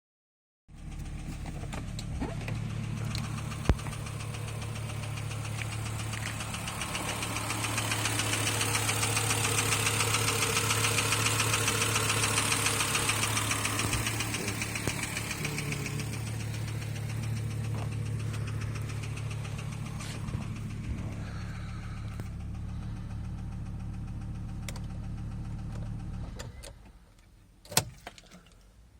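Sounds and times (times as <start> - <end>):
car engine knocking: 0.7 - 26.3.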